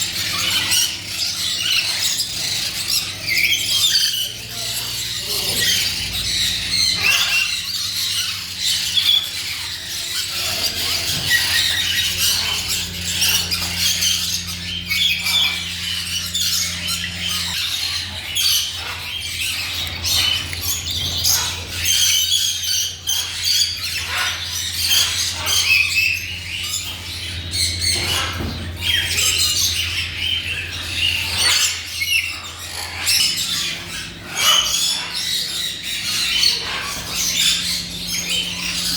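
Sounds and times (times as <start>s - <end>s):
flock of birds chirping: 0.0s - 38.9s
steady low hum: 0.0s - 38.9s.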